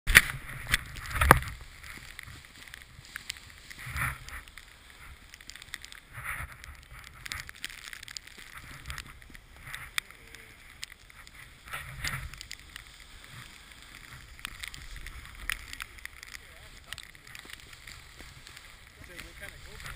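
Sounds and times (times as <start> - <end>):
small clicks: 0.1 - 19.9
snowboard scraping over snow: 0.1 - 19.9.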